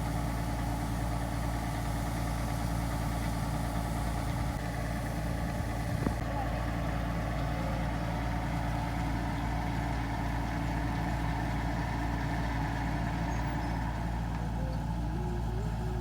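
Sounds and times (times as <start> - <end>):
farm machine engine humming: 0.0 - 16.0.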